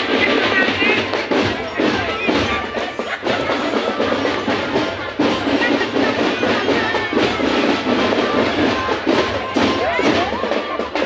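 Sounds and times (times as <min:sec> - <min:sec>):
marching drum band playing: 0:00.0 - 0:11.0.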